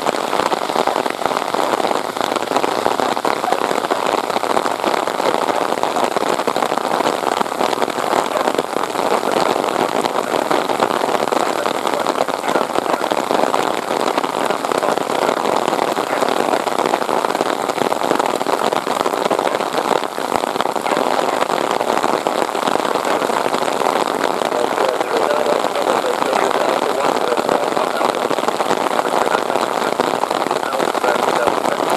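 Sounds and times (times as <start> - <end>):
heavy rain hiss: 0.0 - 31.9.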